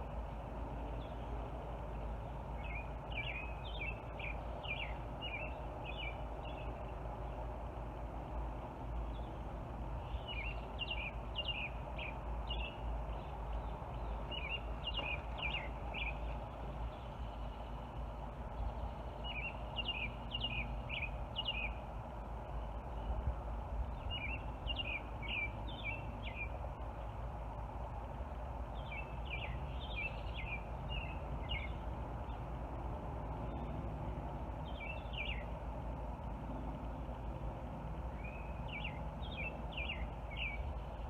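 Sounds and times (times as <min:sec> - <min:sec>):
low background noise: 0:00.0 - 0:41.0
songbird singing: 0:00.0 - 0:41.0.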